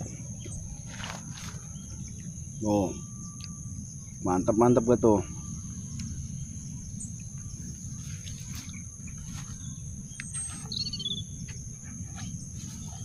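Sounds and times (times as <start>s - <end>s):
bird chirp: 0.0s - 13.0s
insects droning: 0.0s - 13.0s
low background rumble: 0.0s - 13.0s.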